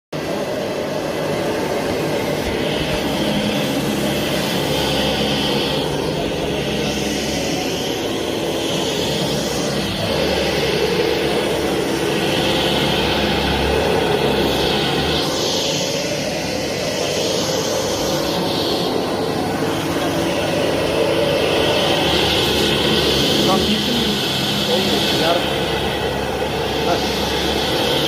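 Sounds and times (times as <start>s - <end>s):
vacuum cleaner running: 0.2s - 28.0s.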